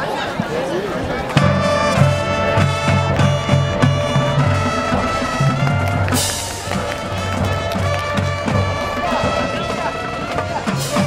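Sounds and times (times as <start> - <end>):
marching band playing: 1.0 - 11.0.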